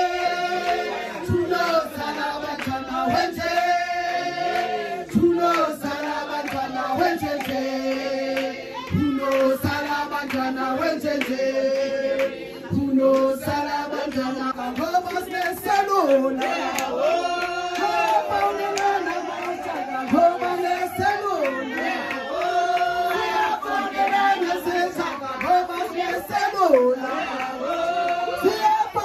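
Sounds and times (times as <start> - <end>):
group of people singing: 0.0 - 29.0
woman singing through a microphone: 0.0 - 29.0.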